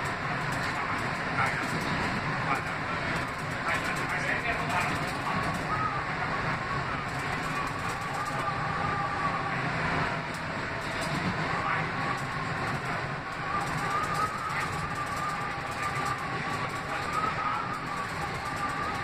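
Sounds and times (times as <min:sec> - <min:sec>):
subway car wheels rumbling: 0:00.0 - 0:19.0.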